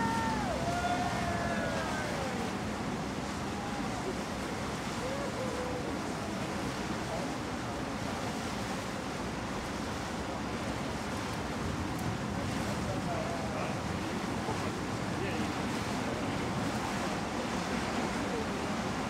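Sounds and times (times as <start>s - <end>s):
water rushing past ship: 0.0s - 19.0s
wind: 0.0s - 19.0s.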